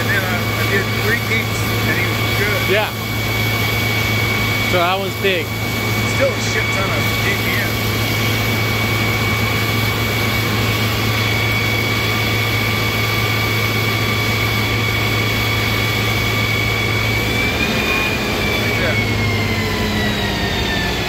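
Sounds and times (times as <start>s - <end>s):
fire engine pump running: 0.0s - 21.0s.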